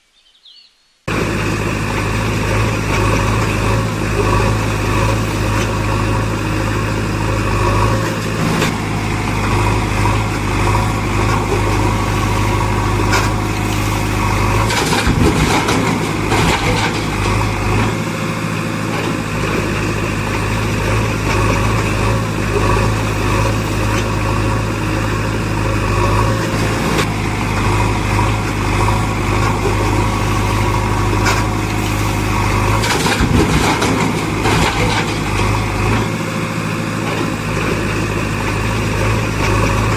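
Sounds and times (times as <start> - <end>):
engine humming: 1.0 - 39.9.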